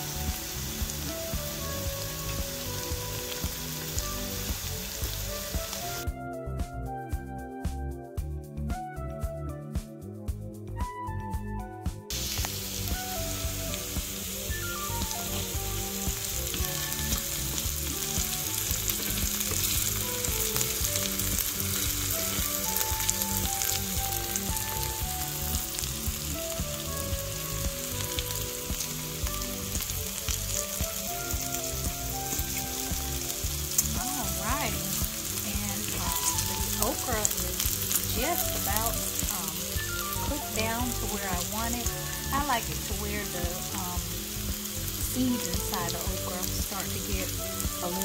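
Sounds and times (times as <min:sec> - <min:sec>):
vegetables sizzling in a skillet: 0:00.0 - 0:06.1, 0:12.1 - 0:48.0
background music: 0:00.0 - 0:48.0.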